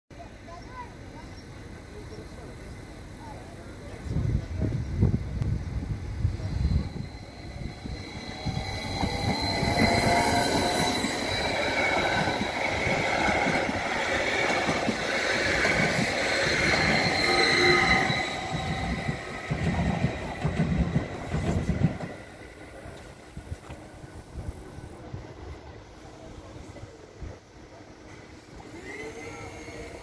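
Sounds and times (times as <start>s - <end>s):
electric train passing: 0.4s - 25.1s, 28.0s - 30.0s.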